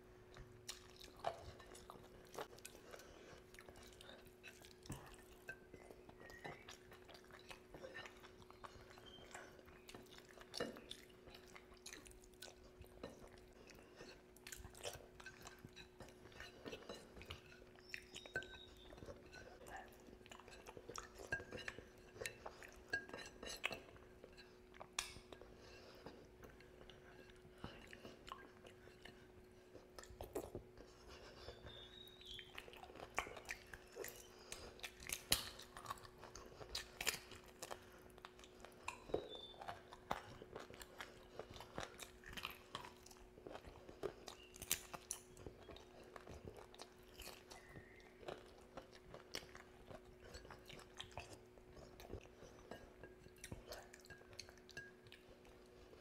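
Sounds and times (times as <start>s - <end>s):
faint steady hum: 0.0s - 56.0s
man eating with wet smacks: 0.1s - 56.0s.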